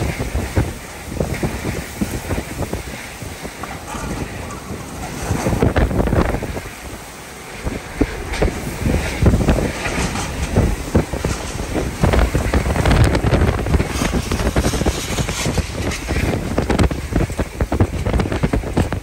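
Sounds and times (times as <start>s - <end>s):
violent wind gusts: 0.0s - 19.0s
wind buffeting microphone: 0.0s - 19.0s
wind-driven rain: 0.0s - 19.0s.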